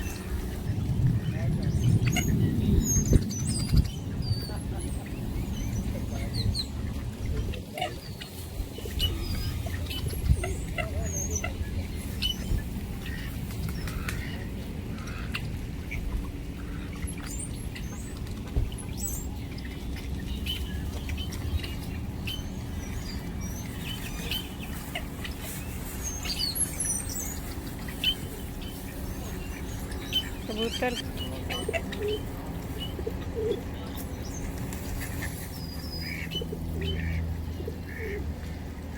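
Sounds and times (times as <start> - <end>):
birds chirping and calling: 0.0 - 38.9
steady low rumble: 0.0 - 38.9.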